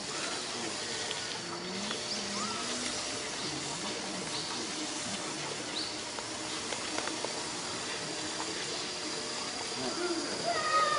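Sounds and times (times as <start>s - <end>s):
steady hiss: 0.0s - 10.9s.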